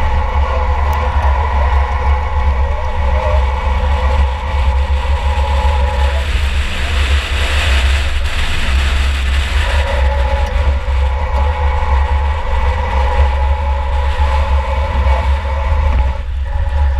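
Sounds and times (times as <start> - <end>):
car engine low rumble: 0.0 - 16.9.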